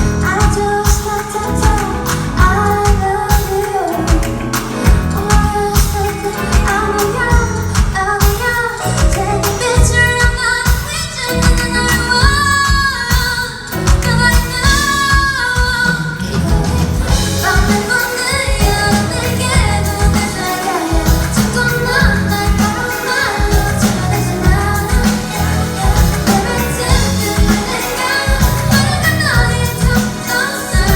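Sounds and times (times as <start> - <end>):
live pop band: 0.0 - 30.9
person singing: 0.0 - 30.9.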